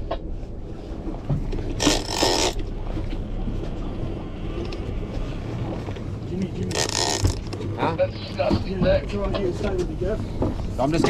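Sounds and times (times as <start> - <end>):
boat engine rumbling: 0.0 - 11.0
water noise: 0.0 - 11.0
wind: 0.0 - 11.0.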